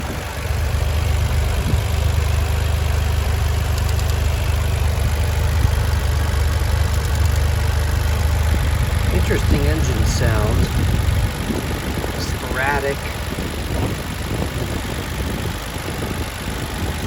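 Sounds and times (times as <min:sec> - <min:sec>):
car engine idling: 0:00.0 - 0:17.0
ticking from engine compartment: 0:00.0 - 0:17.0.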